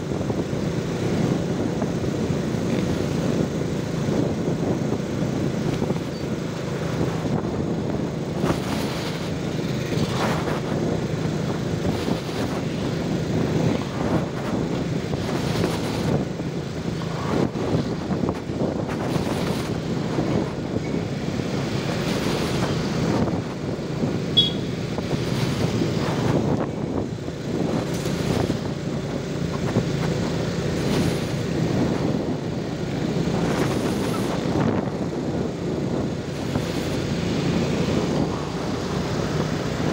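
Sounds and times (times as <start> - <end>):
motorbike engine running: 0.0 - 39.9
motorbikes in traffic: 0.0 - 39.9
wind noise: 0.0 - 39.9.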